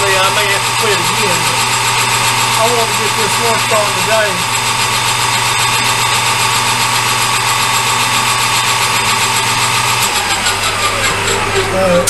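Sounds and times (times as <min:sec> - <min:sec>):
lathe motor hum: 0:00.0 - 0:12.0.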